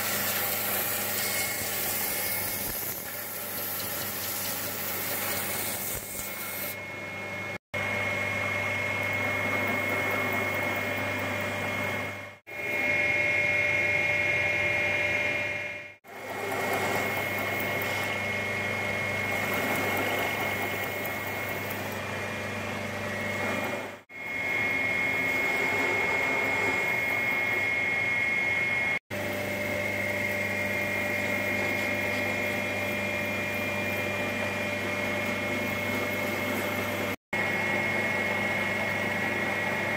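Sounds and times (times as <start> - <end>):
belt grinder hum and whine: 0.0 - 39.9.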